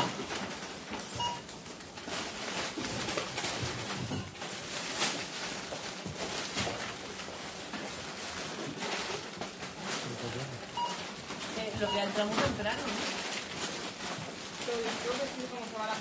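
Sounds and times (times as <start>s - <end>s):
clatter and knocks: 0.0s - 16.0s
indoor background din: 0.0s - 16.0s.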